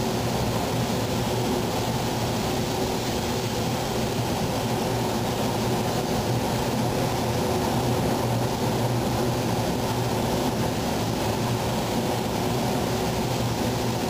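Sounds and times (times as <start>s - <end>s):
ventilation low hum: 0.0s - 14.0s.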